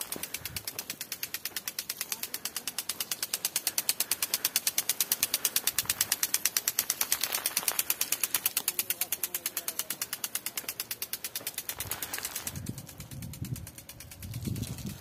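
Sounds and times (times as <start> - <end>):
impact sprinkler ticking: 0.0 - 15.0.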